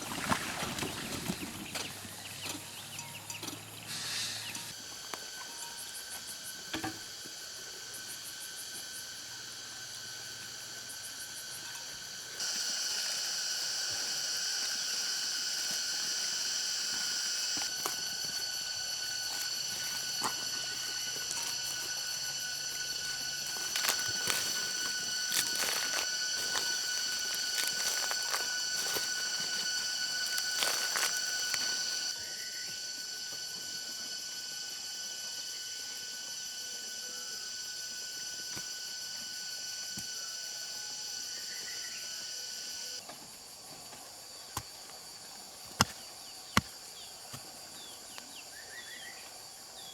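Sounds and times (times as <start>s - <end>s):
insects buzzing: 0.0s - 49.9s.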